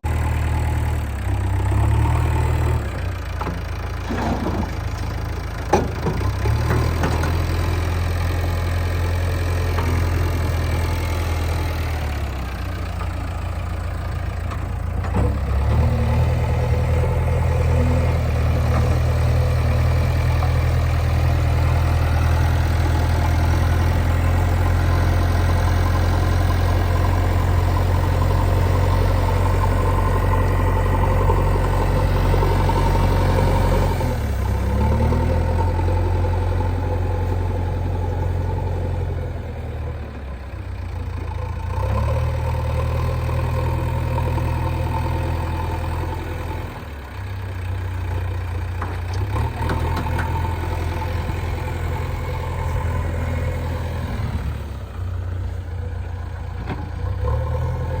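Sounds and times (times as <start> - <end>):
heavy diesel engine revving: 0.0 - 40.0, 41.5 - 58.0.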